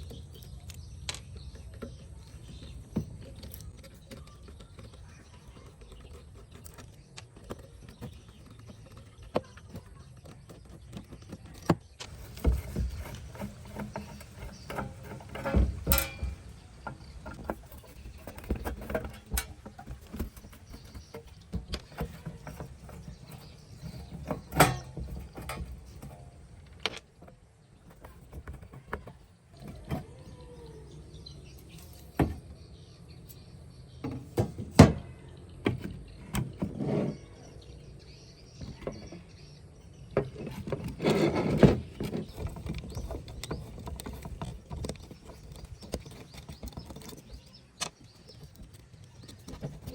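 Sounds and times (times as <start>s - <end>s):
knocks clicks and rattles: 0.0s - 30.6s, 40.1s - 49.9s.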